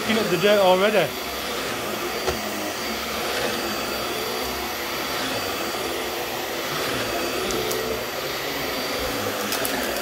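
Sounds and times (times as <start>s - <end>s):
vacuum cleaner running on carpet: 0.0s - 10.0s.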